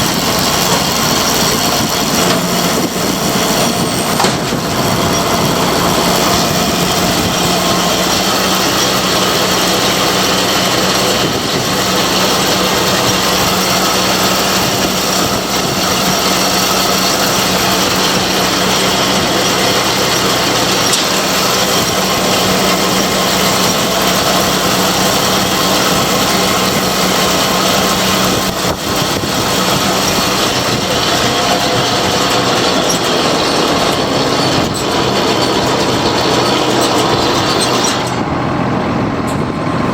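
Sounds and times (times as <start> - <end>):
baler mechanical clatter: 0.0 - 39.9
tractor engine hum: 0.0 - 39.9.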